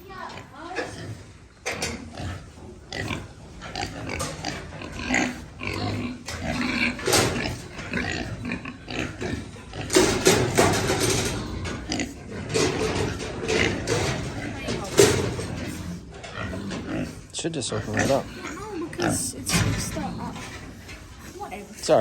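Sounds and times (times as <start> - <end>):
pigs grunting: 0.1 - 22.0.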